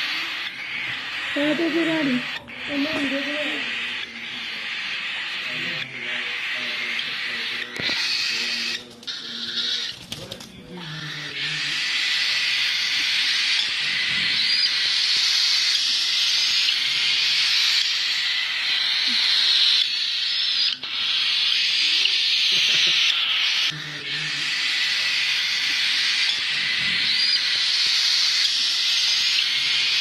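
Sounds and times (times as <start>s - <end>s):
chicks begging calls: 0.0s - 30.0s.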